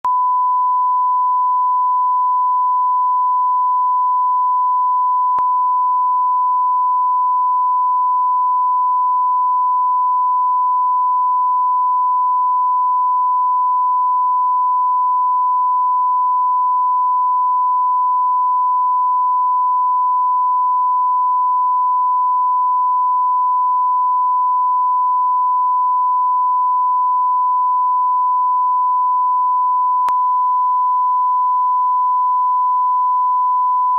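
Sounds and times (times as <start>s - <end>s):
steady test tone beep: 0.0s - 33.9s.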